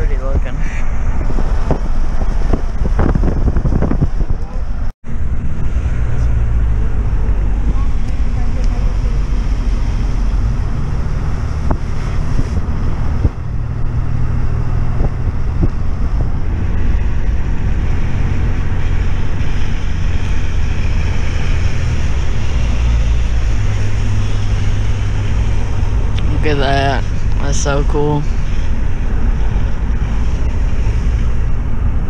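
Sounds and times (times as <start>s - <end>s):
engine and road rumble: 0.0s - 32.0s
wind buffeting microphone: 0.0s - 32.0s.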